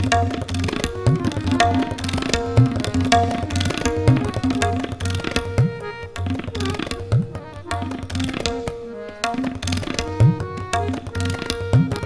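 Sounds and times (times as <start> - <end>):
harmonium sustained notes: 0.0 - 12.0
tabla playing fast: 0.0 - 12.0.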